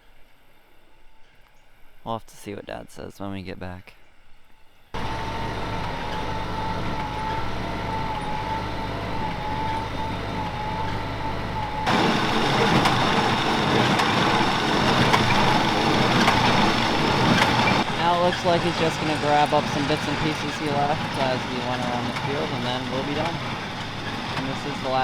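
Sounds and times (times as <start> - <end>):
rough engine sound: 5.0 - 25.0
tractor engine with whine: 5.0 - 25.0.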